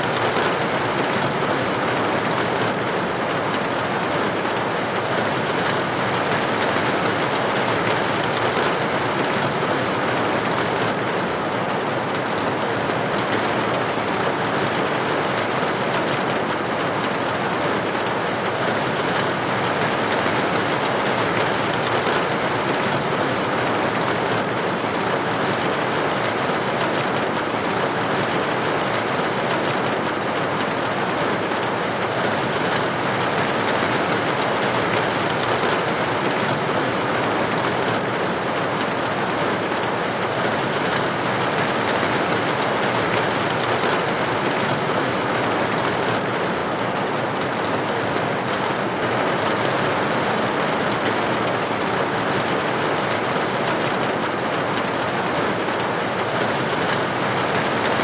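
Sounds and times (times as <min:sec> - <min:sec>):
rain falling on a window: 0:00.0 - 0:58.0.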